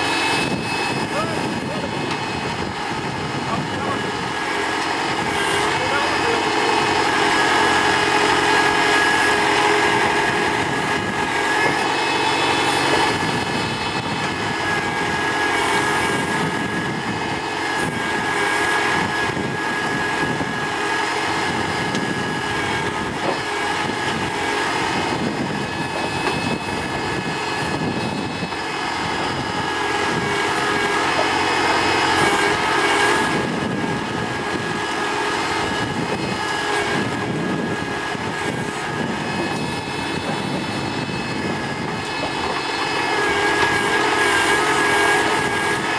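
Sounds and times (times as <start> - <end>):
high hydraulic whine: 0.0 - 45.9
tractor diesel engine running: 0.0 - 45.9.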